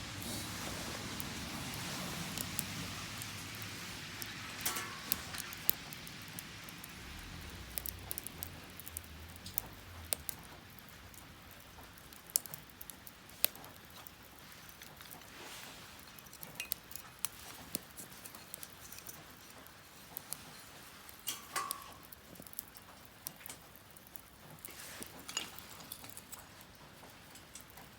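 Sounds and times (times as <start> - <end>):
burning wood crackling and popping: 0.0 - 27.9
hiss of flame: 0.0 - 27.9.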